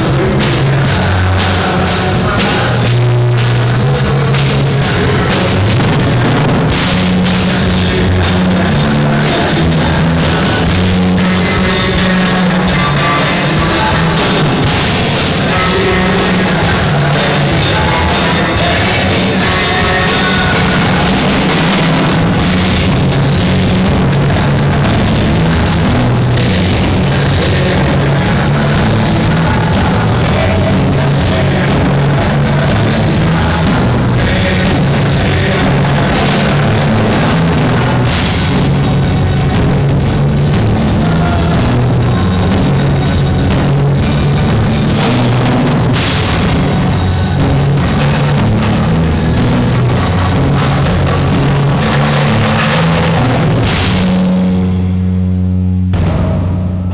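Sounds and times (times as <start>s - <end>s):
bass line: 0.0s - 56.9s
drum kit: 0.0s - 56.9s
rock band playing loud: 0.0s - 56.9s.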